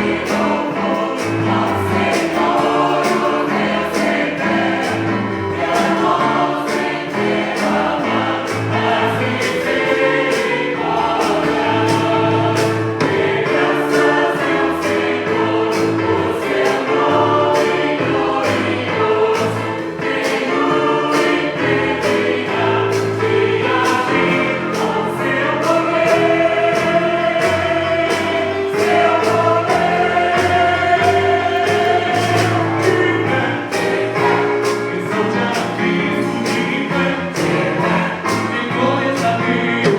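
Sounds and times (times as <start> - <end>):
choir singing gospel: 0.0 - 39.9
instrumental accompaniment with beat: 0.0 - 39.9.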